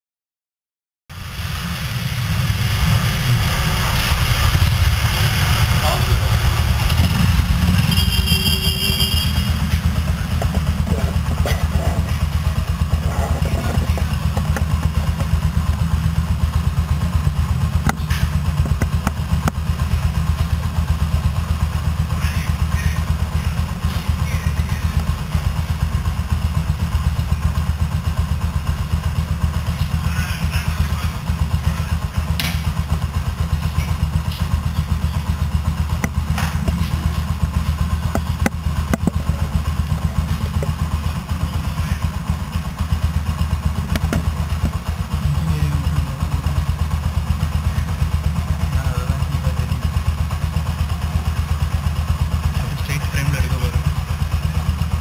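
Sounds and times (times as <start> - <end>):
motorcycle engine idling: 1.1 - 55.0.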